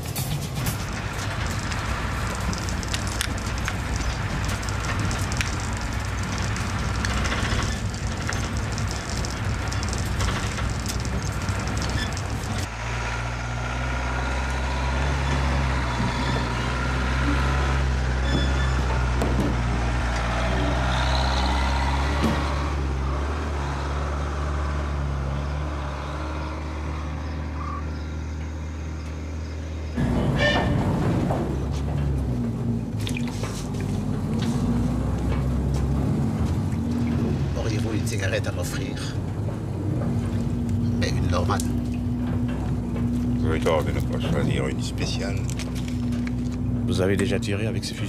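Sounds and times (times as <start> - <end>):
coach engine droning: 0.0 - 48.0
road noise: 0.0 - 48.0.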